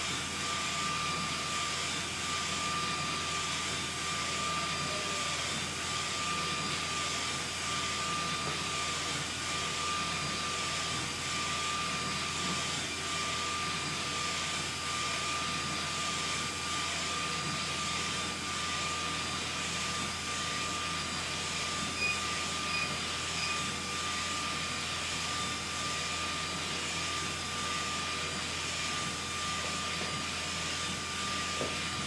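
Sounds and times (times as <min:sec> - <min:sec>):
printer mechanical whir: 0:00.1 - 0:32.0.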